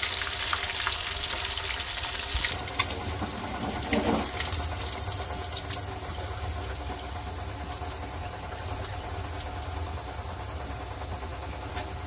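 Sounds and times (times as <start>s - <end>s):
frying oil crackles: 0.0s - 12.0s.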